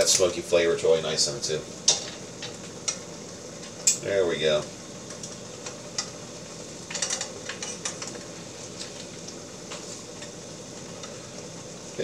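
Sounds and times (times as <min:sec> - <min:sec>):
sauce sizzling in a skillet: 0:00.0 - 0:12.0.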